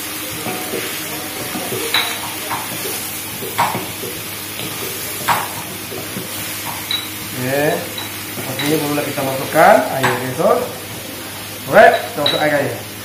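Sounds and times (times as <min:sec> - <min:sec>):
stir-fry sizzling: 0:00.0 - 0:13.0.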